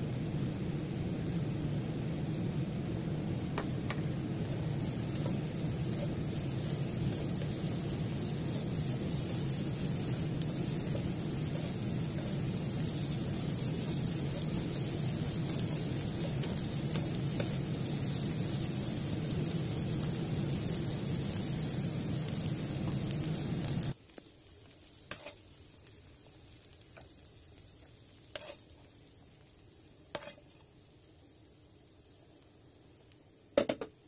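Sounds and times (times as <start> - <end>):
fried rice sizzling in a pan: 0.0 - 34.0.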